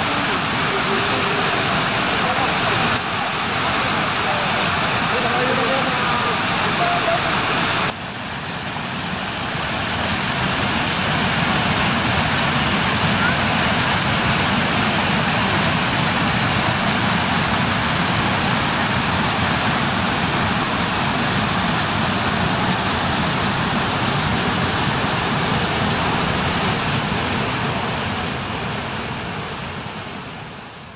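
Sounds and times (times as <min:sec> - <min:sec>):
waterfall and stream rushing: 0:00.0 - 0:30.9.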